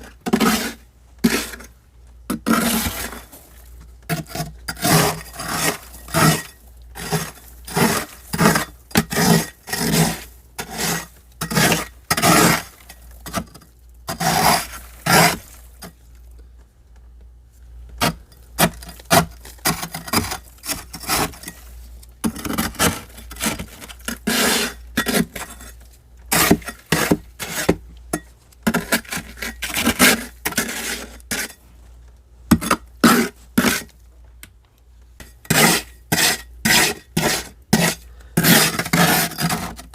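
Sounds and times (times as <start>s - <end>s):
frost being scraped off freezer: 0.1s - 1.7s, 2.3s - 15.8s, 18.0s - 27.8s, 28.7s - 31.6s, 32.5s - 33.9s, 35.5s - 39.9s.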